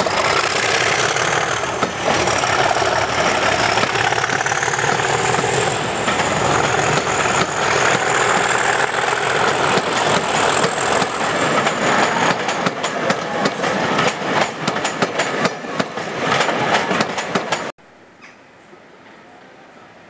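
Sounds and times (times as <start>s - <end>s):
diesel locomotive engine: 0.0s - 17.7s
train wheels clicking over rail joints: 0.0s - 17.7s.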